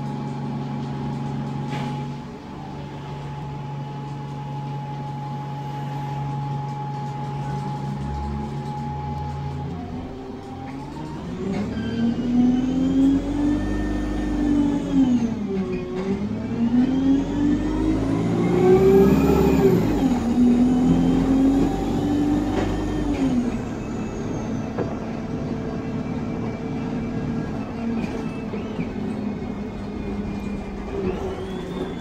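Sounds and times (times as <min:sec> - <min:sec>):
bus gearbox whine: 0:00.0 - 0:32.0.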